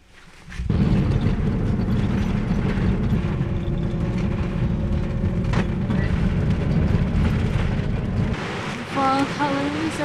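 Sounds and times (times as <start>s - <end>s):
van engine rumble: 0.4s - 10.0s
road noise: 0.5s - 10.0s.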